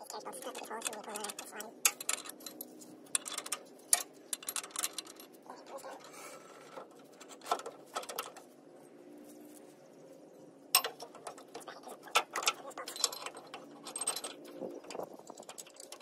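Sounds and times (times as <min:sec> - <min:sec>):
metal hardware clicking and knocking: 0:00.1 - 0:08.5, 0:10.8 - 0:16.0.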